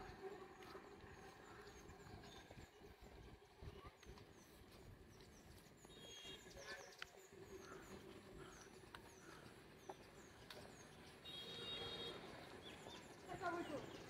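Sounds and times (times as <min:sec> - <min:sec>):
small birds chirping: 0:00.4 - 0:14.0.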